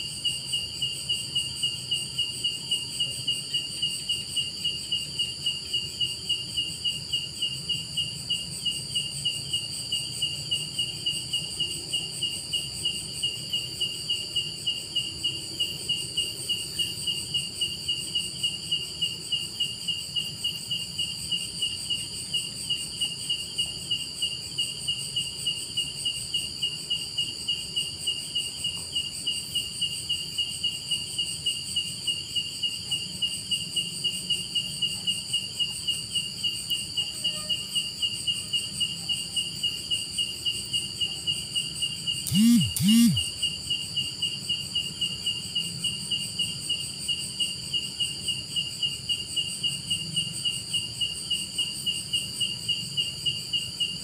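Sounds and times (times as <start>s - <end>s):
insect chirping in fast pulses: 0.0s - 54.0s
insects high-pitched trill: 0.0s - 54.0s.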